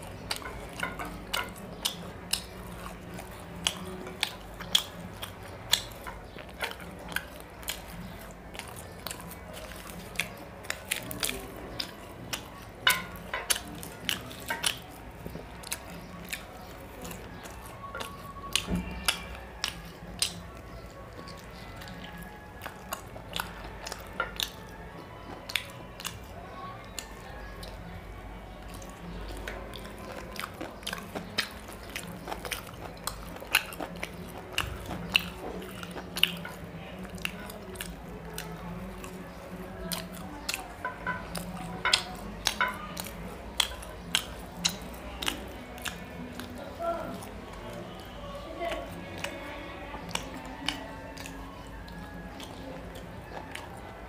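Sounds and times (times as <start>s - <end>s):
person chewing wetly: 0.0s - 54.0s.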